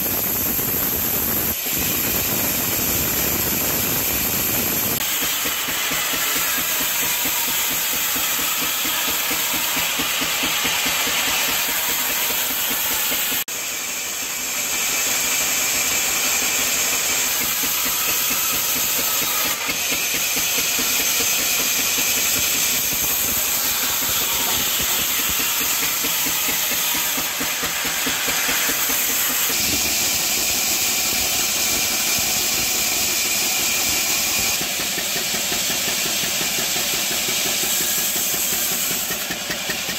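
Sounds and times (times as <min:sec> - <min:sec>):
band saw blade cutting log: 0:00.0 - 0:39.9.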